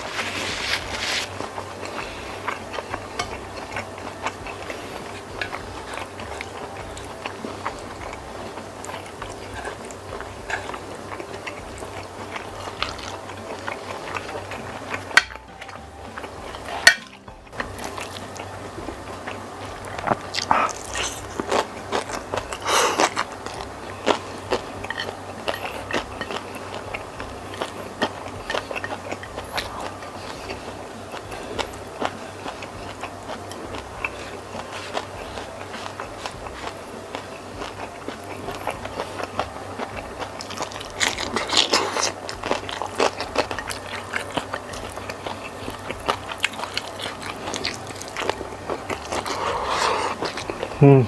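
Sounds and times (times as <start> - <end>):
wet chewing and mouth smacking: 0.8 - 50.8.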